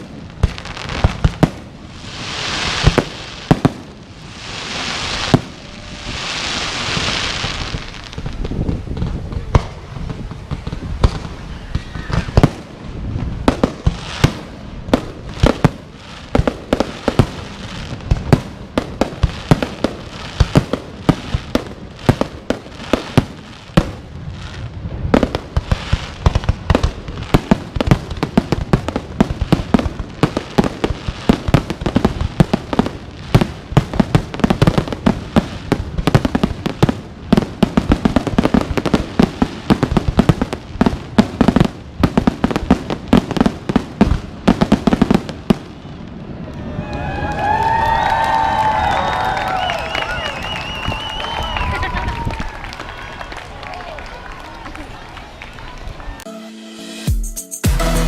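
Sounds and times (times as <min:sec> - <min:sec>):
fireworks exploding: 0:00.0 - 0:55.0.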